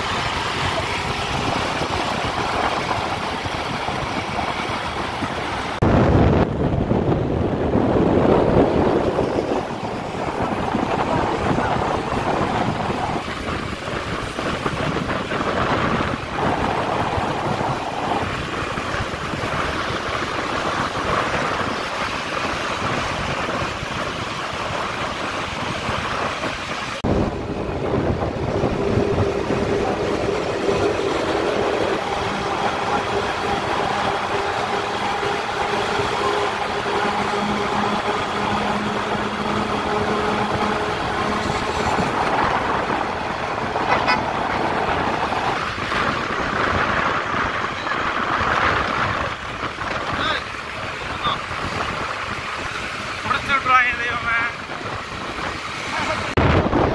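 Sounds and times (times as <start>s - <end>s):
heavy vehicle engines droning: 0.0s - 56.9s
road noise: 0.0s - 56.9s
rushing wind: 0.0s - 56.9s.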